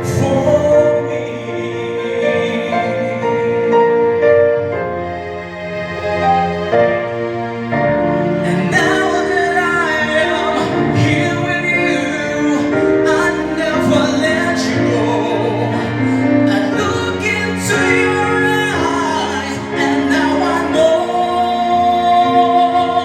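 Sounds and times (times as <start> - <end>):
person singing slow ballad: 0.0 - 4.3, 8.4 - 23.0
backing track music: 0.0 - 23.0.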